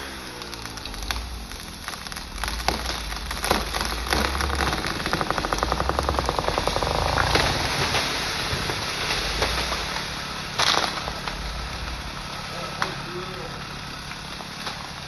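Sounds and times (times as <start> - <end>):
low engine rumble: 0.0 - 15.0
wood cracking and snapping: 0.0 - 15.0.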